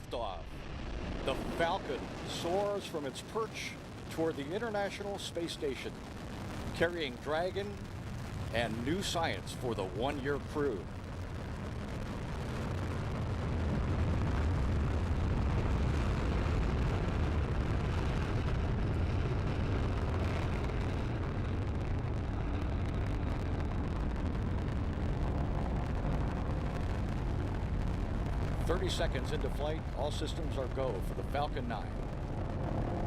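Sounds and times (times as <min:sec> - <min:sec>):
rocket engines rumbling: 0:00.0 - 0:33.0.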